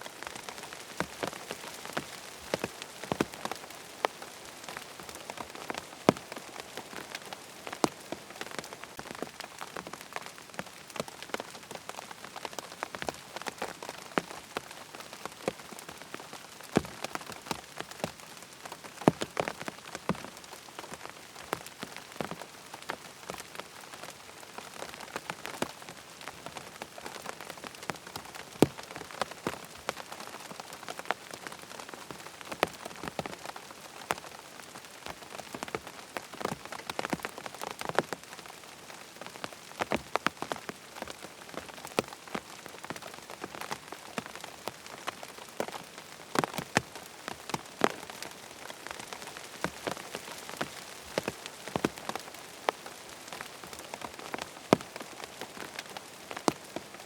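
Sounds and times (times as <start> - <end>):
rain pattering on tent fabric: 0.0 - 57.0.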